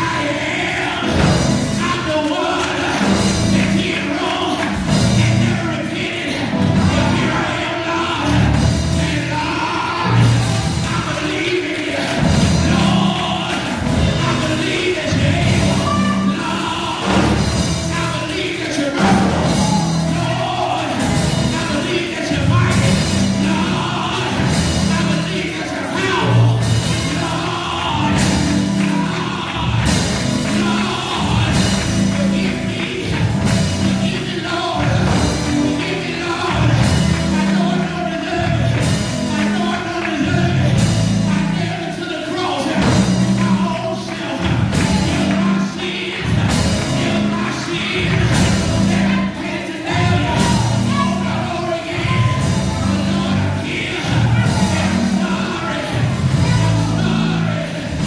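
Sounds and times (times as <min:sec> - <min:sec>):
gospel band playing: 0:00.0 - 0:58.0
man singing into a microphone: 0:00.0 - 0:58.0.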